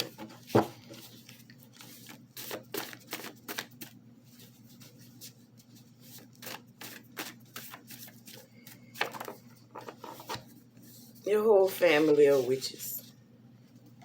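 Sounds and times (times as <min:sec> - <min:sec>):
cards being shuffled: 0:00.0 - 0:12.6.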